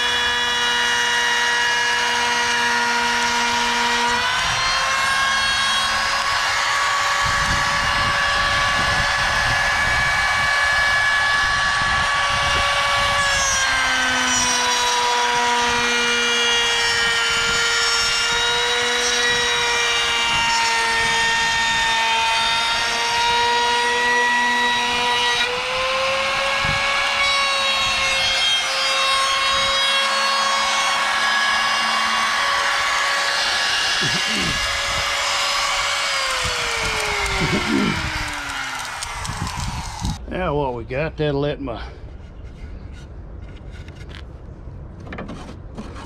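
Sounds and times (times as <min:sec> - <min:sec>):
router whining while cutting wood: 0:00.0 - 0:40.2.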